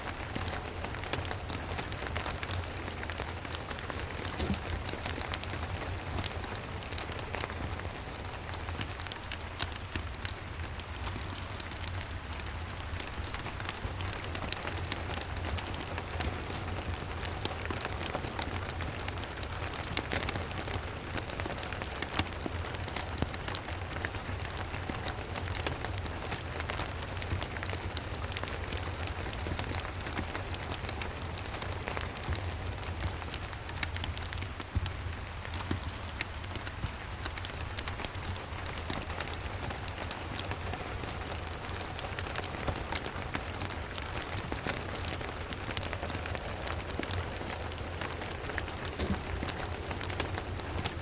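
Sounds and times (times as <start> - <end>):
rain pattering: 0.0 - 51.0
wood fire crackling: 0.0 - 51.0.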